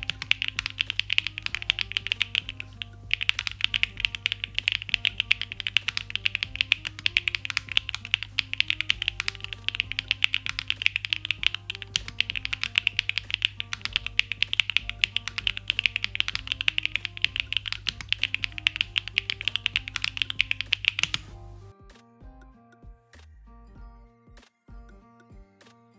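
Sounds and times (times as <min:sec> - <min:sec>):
mechanical keyboard keystroke clacks: 0:00.0 - 0:21.7.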